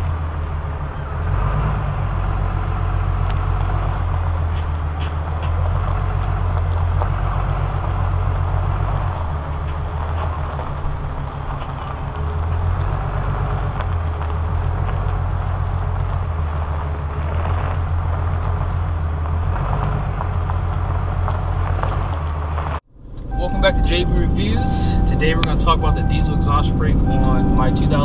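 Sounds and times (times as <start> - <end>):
diesel truck engine rumbling: 0.0 - 28.0.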